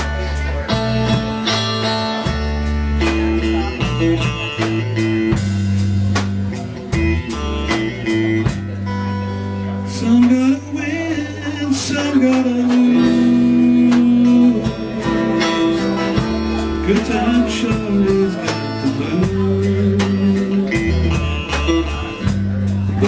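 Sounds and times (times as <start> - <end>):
electric bass line: 0.0 - 23.0
electric guitars: 0.0 - 23.0
steady drum beat: 0.0 - 23.0.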